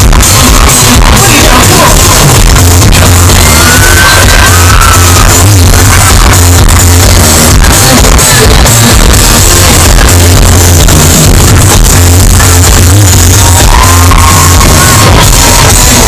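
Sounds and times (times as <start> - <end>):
electronic dance music: 0.0 - 16.0.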